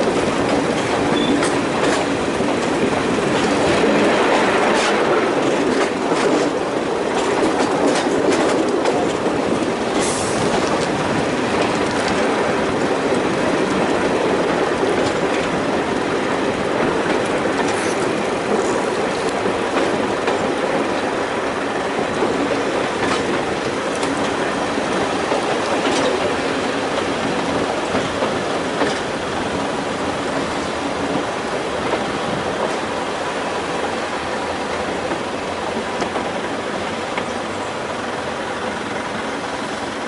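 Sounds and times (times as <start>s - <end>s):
train engine and wheels rumbling: 0.0s - 40.0s
wheels clicking over rail joints: 0.0s - 40.0s.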